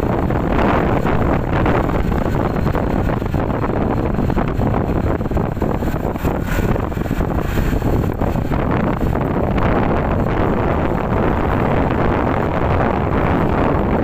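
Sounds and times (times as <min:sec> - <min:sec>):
motorcycle engine and tyres: 0:00.0 - 0:14.0
wind rushing over microphone: 0:00.0 - 0:14.0.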